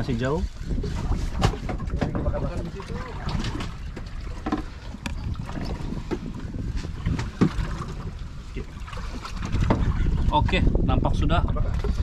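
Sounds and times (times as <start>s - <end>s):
water sounds from boat: 0.0s - 12.0s
wind rumbling on microphone: 0.0s - 12.0s.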